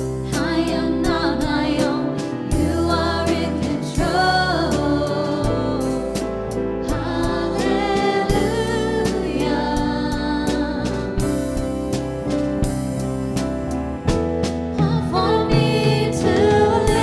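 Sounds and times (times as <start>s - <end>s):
band with steady beat: 1.8s - 17.0s.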